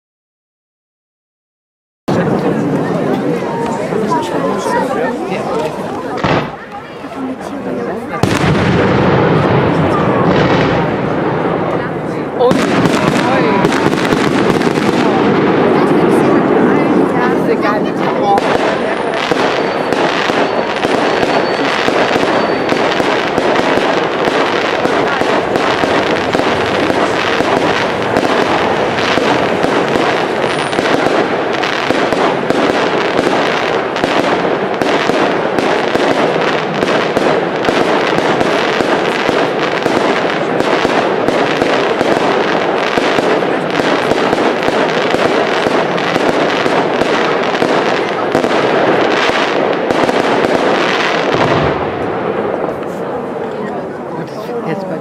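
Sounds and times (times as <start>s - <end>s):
fireworks crackling and popping: 2.1s - 55.0s.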